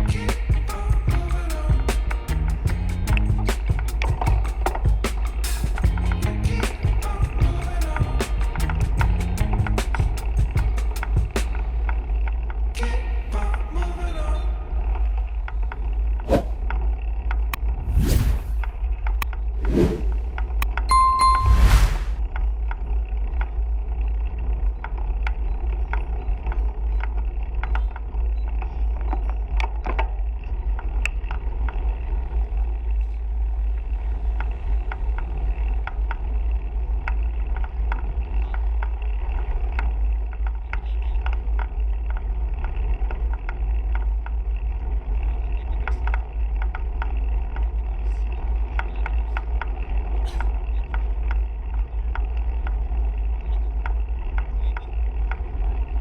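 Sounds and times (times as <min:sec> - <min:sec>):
road and bike noise: 0:00.0 - 0:12.8, 0:22.2 - 0:56.0.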